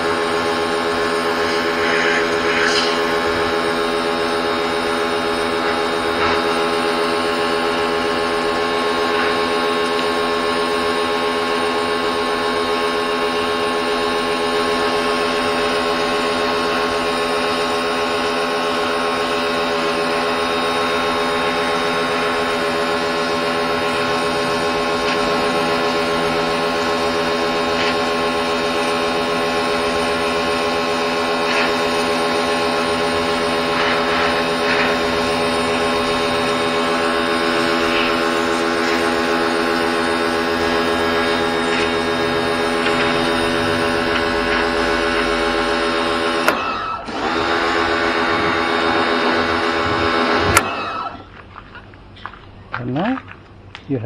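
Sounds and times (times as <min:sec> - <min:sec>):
water jet hissing on concrete: 0:00.0 - 0:51.0
pressure washer pump motor hum: 0:00.0 - 0:51.4.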